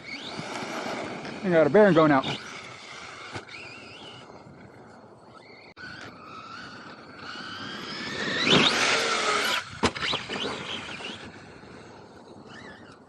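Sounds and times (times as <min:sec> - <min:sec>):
rc truck motor whining: 0:00.0 - 0:13.0.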